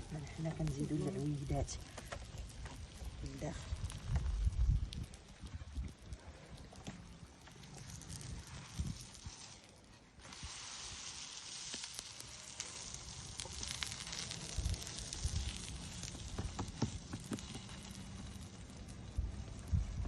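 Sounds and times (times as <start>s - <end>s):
flatbread sizzling in a pan: 0.0s - 20.0s.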